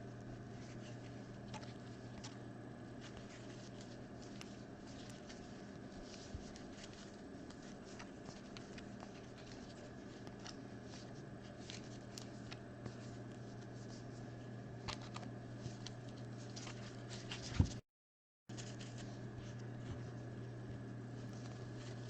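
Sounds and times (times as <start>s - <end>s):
steady electrical hum: 0.0s - 17.8s, 18.5s - 22.0s.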